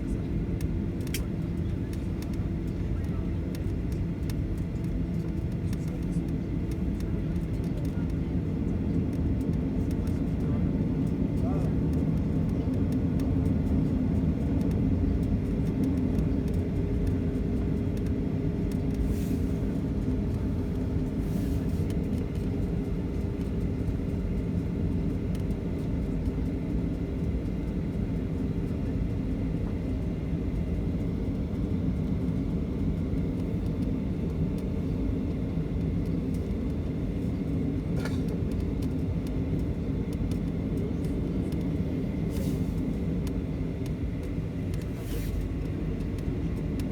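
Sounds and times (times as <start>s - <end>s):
aircraft cabin low rumble: 0.0s - 46.9s
jet engine whine: 0.0s - 46.9s.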